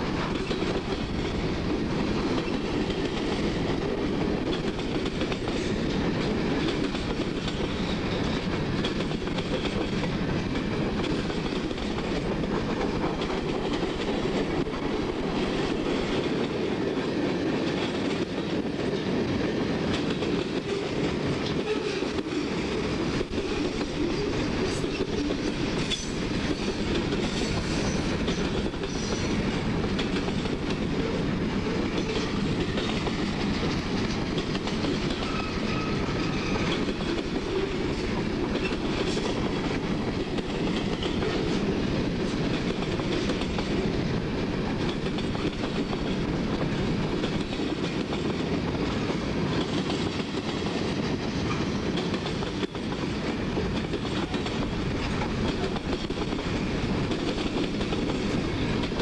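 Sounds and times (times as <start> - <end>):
freight train rumble: 0.0 - 59.0.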